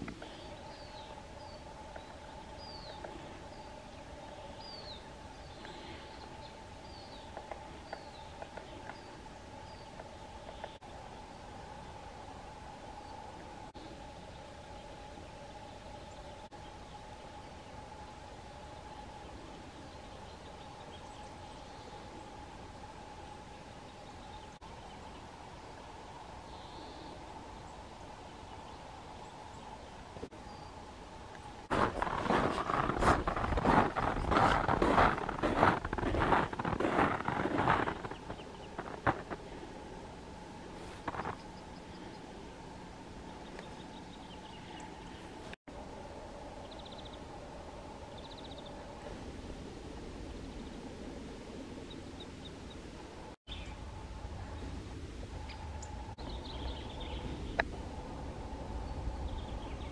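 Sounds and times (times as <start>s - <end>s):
birds chirping: 0.0s - 12.1s, 12.9s - 45.6s, 51.8s - 59.9s
faint steady hum: 0.0s - 59.9s.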